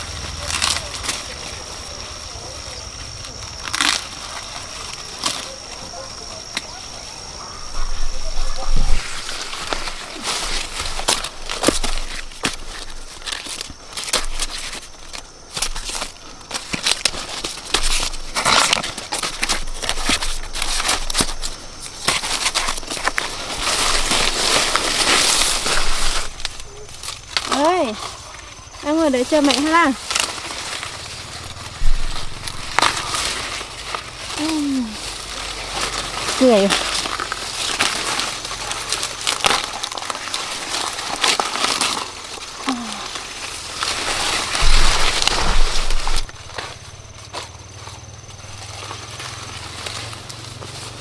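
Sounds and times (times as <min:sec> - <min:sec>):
dry corn plants rustling: 0:00.0 - 0:51.0
plant stalks snapping: 0:00.2 - 0:02.1, 0:03.2 - 0:05.9, 0:08.7 - 0:46.8.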